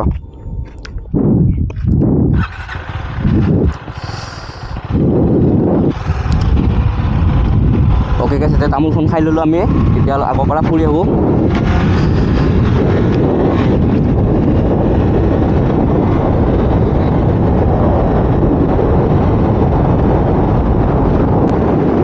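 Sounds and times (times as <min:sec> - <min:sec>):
motorcycle engine accelerating: 0:00.0 - 0:22.0
wind rushing over microphone: 0:00.0 - 0:22.0.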